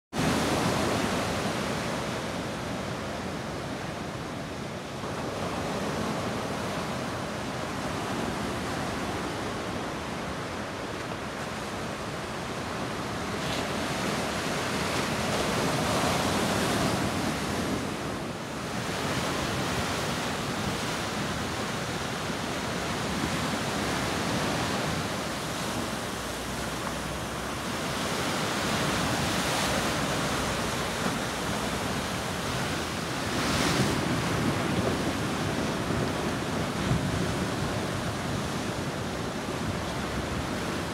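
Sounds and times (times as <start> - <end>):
ocean surf breaking on beach: 0.1 - 40.9.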